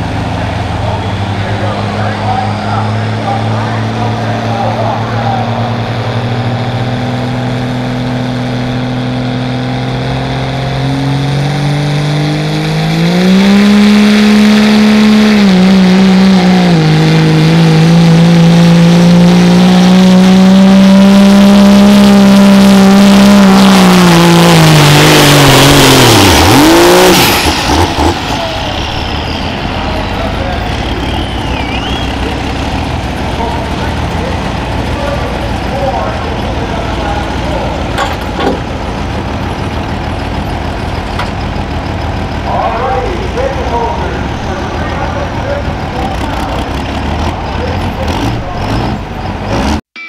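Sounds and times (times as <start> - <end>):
diesel engine revving under load: 0.0 - 49.9.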